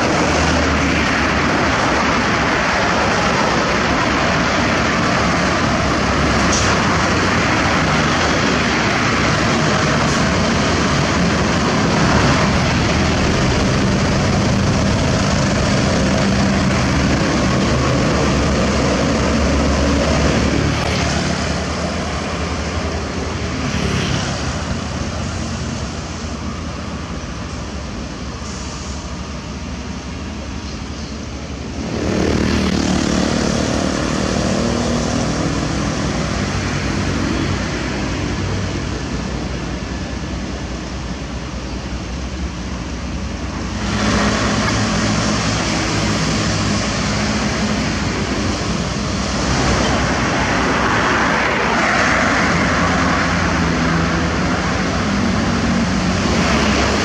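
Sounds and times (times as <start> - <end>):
diesel truck engines droning: 0.0 - 57.0
traffic noise: 0.0 - 57.0.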